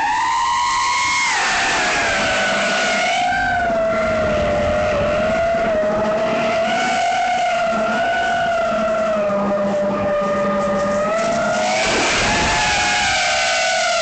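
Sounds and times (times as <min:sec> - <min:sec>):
quadcopter motors whining: 0:00.0 - 0:14.0
wind and propeller noise: 0:00.7 - 0:06.7, 0:08.5 - 0:14.0.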